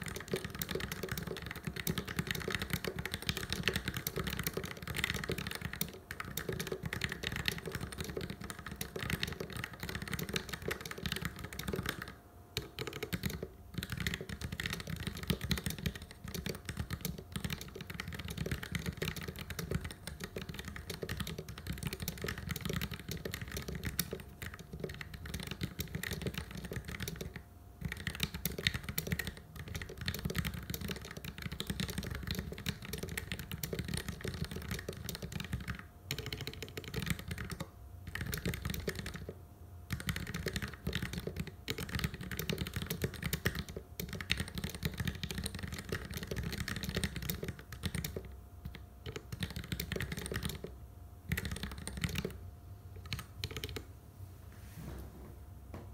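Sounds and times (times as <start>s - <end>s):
typing on mechanical keyboard: 0.0s - 52.4s, 53.0s - 53.9s.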